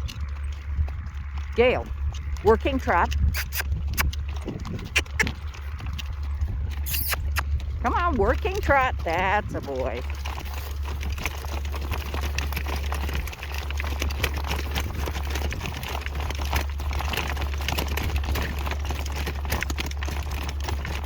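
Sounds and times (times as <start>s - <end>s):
horse hooves trotting: 0.0s - 21.0s
wind rumble on microphone: 0.0s - 21.0s.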